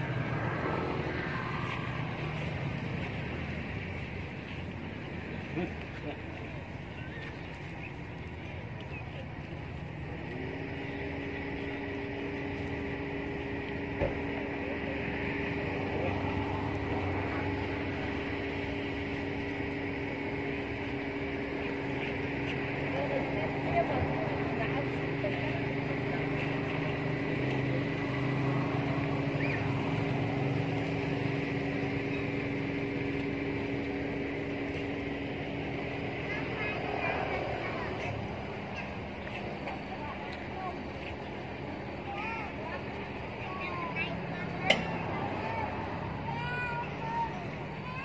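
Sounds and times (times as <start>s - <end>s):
motor droning: 0.0s - 48.0s.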